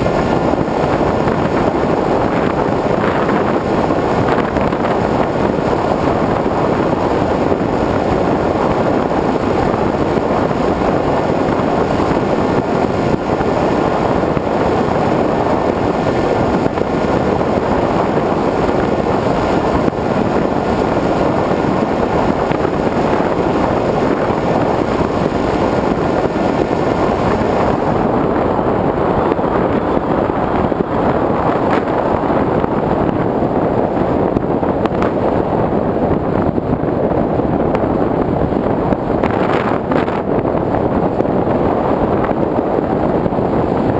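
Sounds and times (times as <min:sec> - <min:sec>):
rush of airflow: 0:00.0 - 0:43.9.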